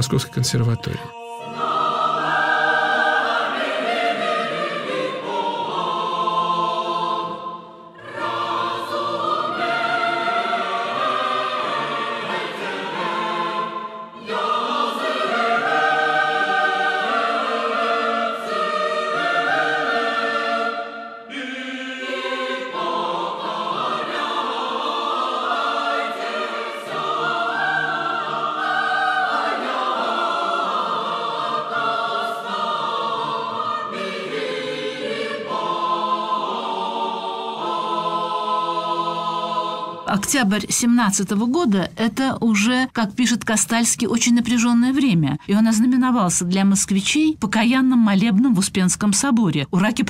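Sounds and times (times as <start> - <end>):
choir singing: 0.0 - 41.3.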